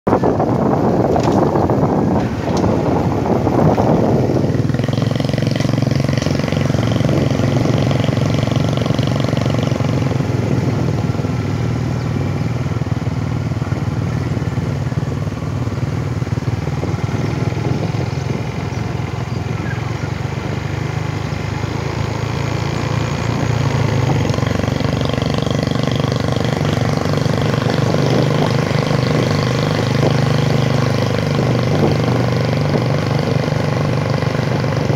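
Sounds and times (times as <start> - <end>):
road and wind noise: 0.0 - 34.9
small motorcycle engine running: 0.2 - 34.9.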